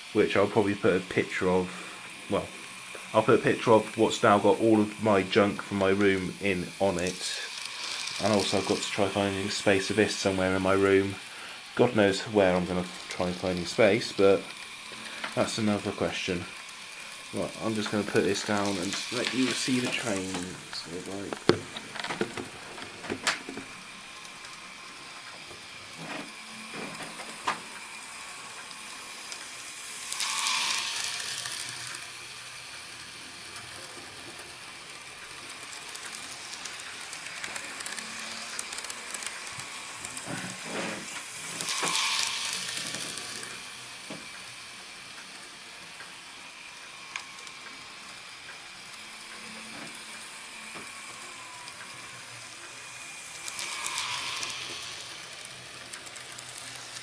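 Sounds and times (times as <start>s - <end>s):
model train motor whine: 0.0s - 57.0s
wheel hiss: 0.0s - 57.0s.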